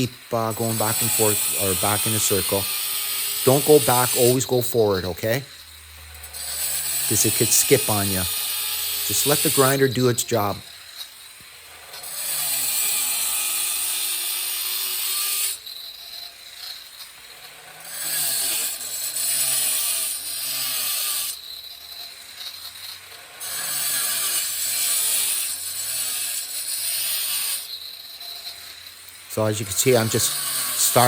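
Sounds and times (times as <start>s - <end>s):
angle grinder grinding tile: 0.0s - 31.0s.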